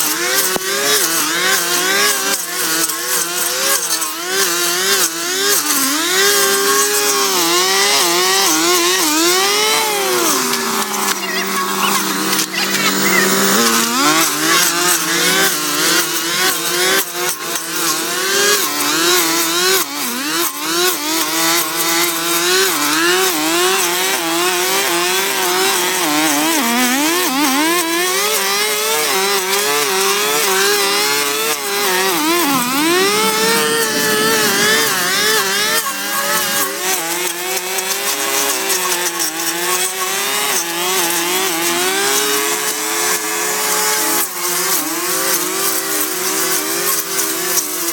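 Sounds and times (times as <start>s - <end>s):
small petrol engine running: 0.0s - 47.9s.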